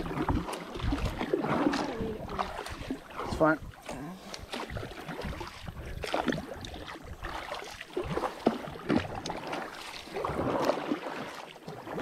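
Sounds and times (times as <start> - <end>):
paddle splashing in river water: 0.0 - 12.0.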